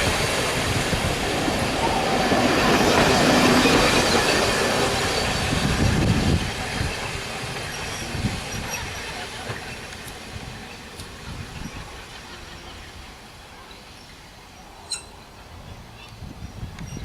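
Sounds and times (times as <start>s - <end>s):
train carriage on rails: 0.0s - 14.4s.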